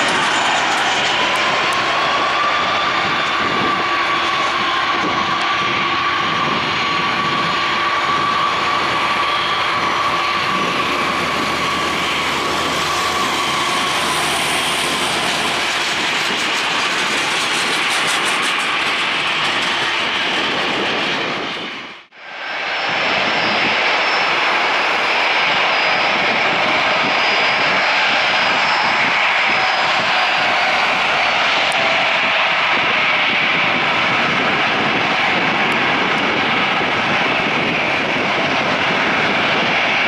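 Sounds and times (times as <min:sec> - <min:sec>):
engine whine: 0:00.0 - 0:40.0
jet engines roaring: 0:00.0 - 0:40.0.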